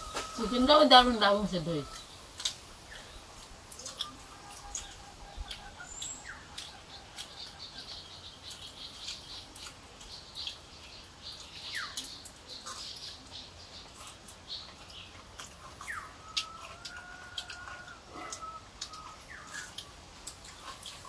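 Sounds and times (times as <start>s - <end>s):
people eating by hand: 0.0s - 21.0s.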